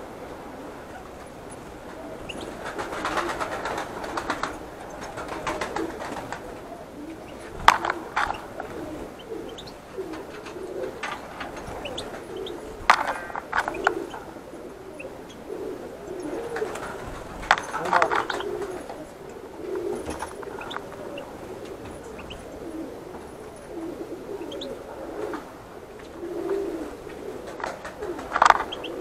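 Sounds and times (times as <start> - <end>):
low wavering calls: 0.0 - 29.0
finches calling and twittering: 0.9 - 2.7, 4.4 - 24.9, 26.9 - 29.0.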